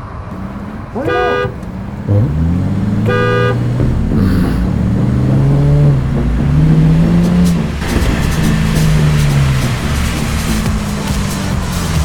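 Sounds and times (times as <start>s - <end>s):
car engine accelerating: 0.0s - 12.0s
car horn honk: 0.3s - 11.4s.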